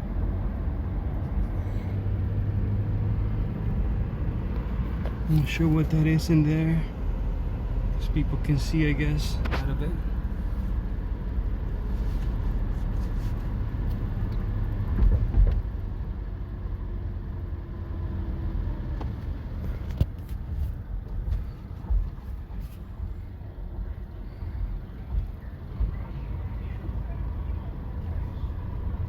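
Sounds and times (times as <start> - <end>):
pickup engine and road rumble: 0.0 - 29.0.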